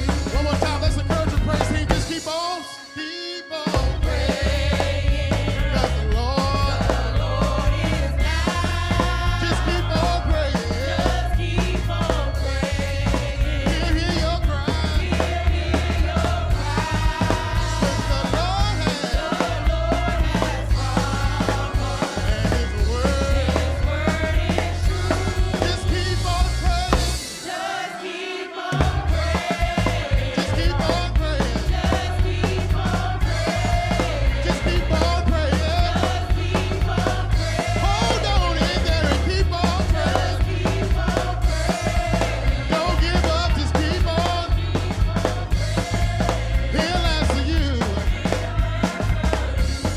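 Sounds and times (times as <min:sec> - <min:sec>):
gospel band with drums and bass: 0:00.0 - 0:49.9
people singing: 0:00.0 - 0:49.9.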